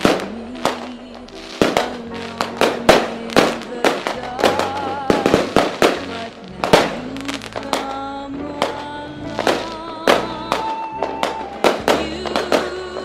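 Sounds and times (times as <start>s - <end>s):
fireworks bangs: 0.0s - 13.0s
music with singing voice: 0.0s - 13.0s.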